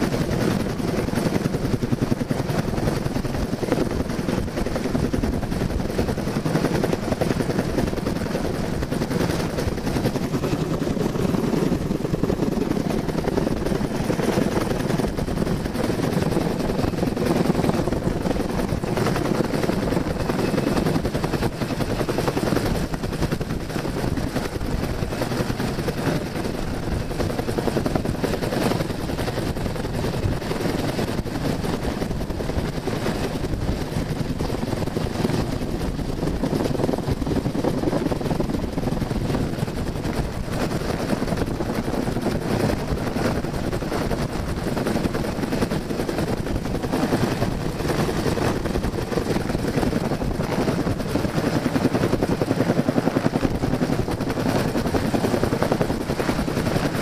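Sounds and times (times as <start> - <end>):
helicopter rotor chopping: 0.0 - 57.0.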